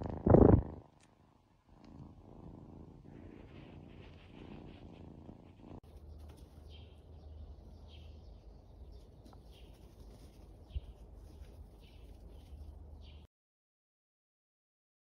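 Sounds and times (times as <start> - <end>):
cat purring: 0.0 - 13.2.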